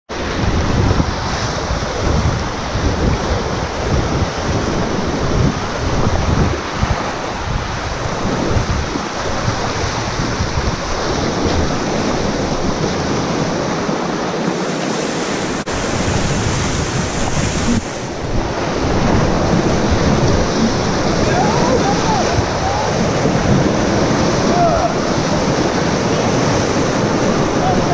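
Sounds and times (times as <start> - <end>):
wind buffeting on microphone: 0.1 - 14.5, 15.1 - 27.9
rapids rushing and splashing: 0.1 - 27.9.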